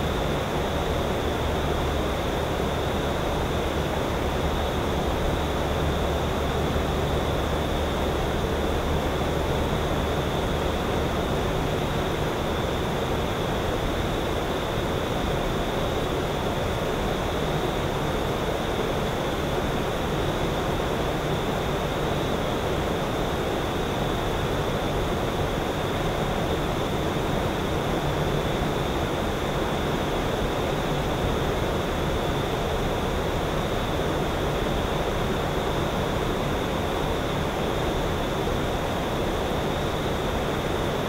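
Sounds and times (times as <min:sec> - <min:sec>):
constant hiss-like noise: 0:00.0 - 0:41.0.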